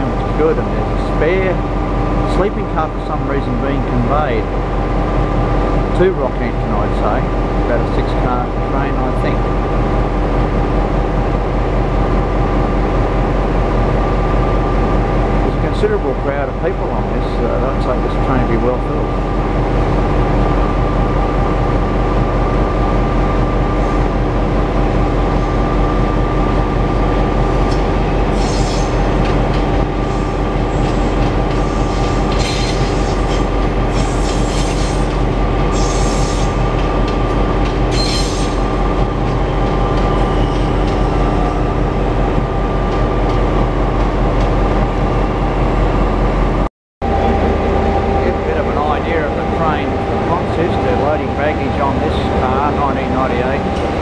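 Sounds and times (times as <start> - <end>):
locomotive engine idling: 0.0 - 44.8, 47.0 - 54.0.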